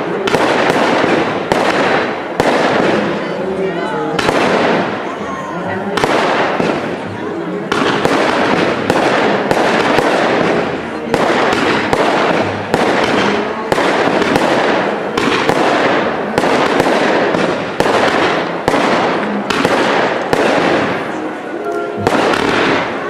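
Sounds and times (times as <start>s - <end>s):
fireworks launching and bursting: 0.0s - 23.0s
fireworks shots: 0.0s - 23.0s.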